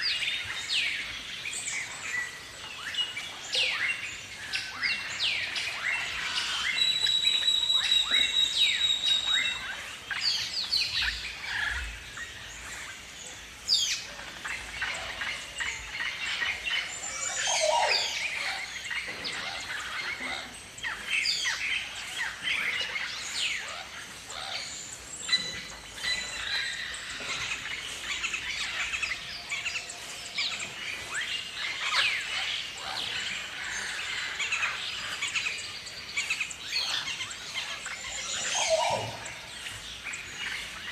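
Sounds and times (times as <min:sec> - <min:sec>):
birds chirping calls: 0:00.0 - 0:40.9.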